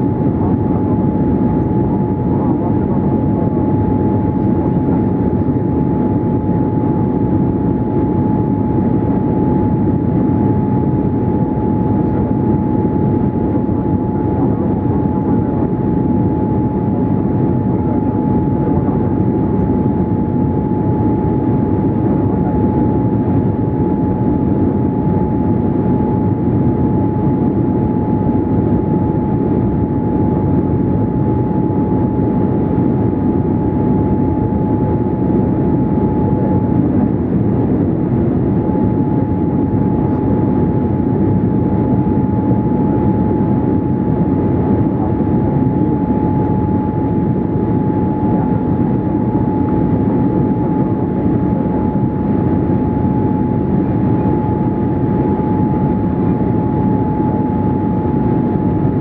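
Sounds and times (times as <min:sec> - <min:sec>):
airplane cabin airflow and engines: 0:00.0 - 0:59.0.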